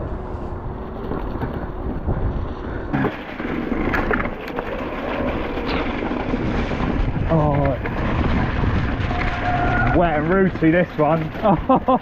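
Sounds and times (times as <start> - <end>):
bike rattling over ground: 0.0 - 12.0
wind rumble on microphone: 0.0 - 12.0.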